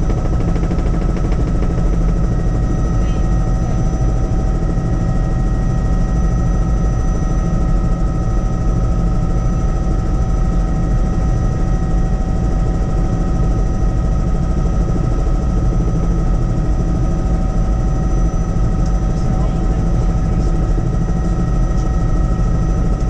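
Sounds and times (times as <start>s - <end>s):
helicopter rotor and engine rumble: 0.0s - 23.0s.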